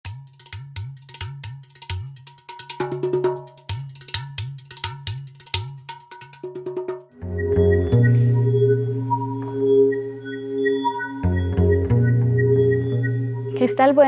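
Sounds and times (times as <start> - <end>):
percussive music: 0.0 - 14.0.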